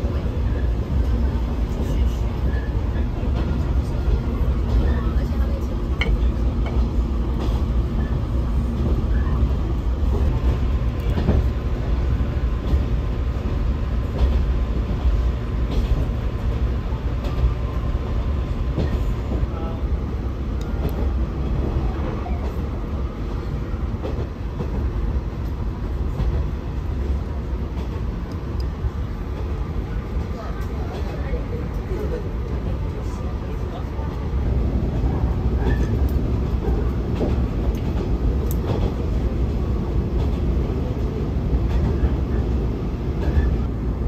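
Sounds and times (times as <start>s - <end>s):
train rumbling inside carriage: 0.0s - 44.0s.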